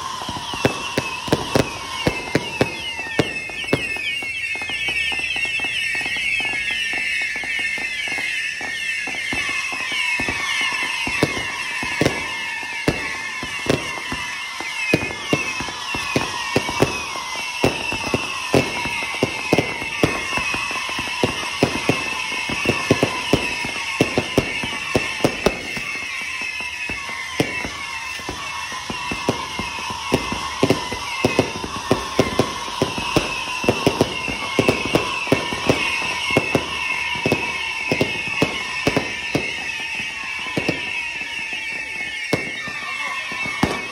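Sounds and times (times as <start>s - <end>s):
fireworks bangs and crackles: 0.0s - 43.9s
high wavering whistles: 0.0s - 43.9s.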